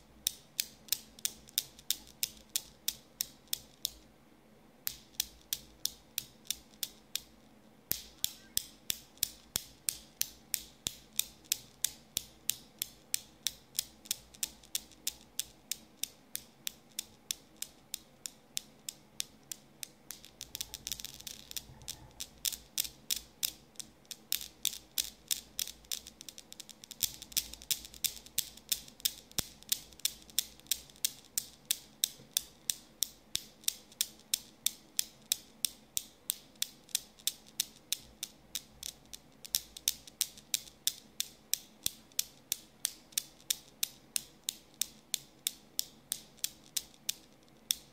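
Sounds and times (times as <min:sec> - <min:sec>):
steel balls clicking: 0:00.2 - 0:04.0, 0:04.8 - 0:47.9.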